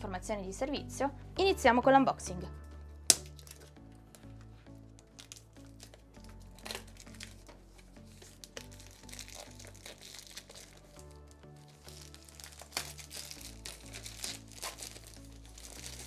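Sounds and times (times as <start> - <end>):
background music with low notes: 0.0 - 16.0
plastic shrink wrap crinkling: 3.1 - 16.0.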